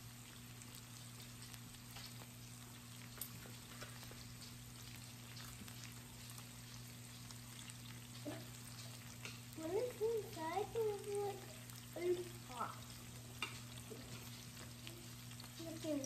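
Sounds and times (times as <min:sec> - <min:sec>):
meat and mushrooms sizzling on grill: 0:00.0 - 0:16.0.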